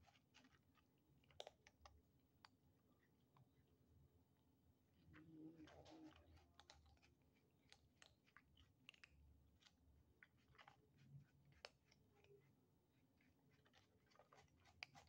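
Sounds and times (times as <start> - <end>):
cats crunching dry kibble: 0.0 - 3.6, 5.0 - 15.0.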